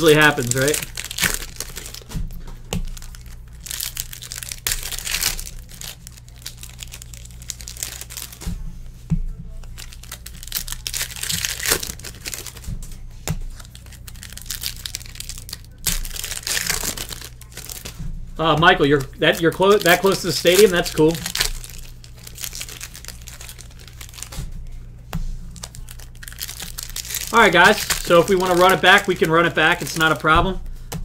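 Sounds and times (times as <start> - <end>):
card pack wrappers crackling and tearing: 0.0 - 8.5, 9.6 - 12.7, 13.5 - 24.5, 25.5 - 30.4.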